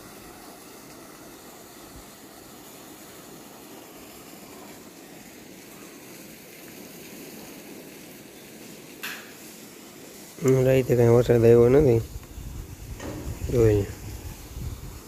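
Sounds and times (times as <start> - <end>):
water spilling onto ground: 0.0 - 15.0.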